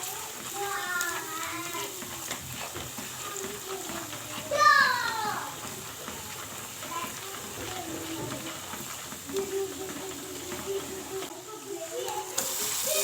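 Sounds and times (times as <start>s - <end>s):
faint voices: 0.0s - 13.0s
food sizzling in a pot: 0.0s - 13.0s.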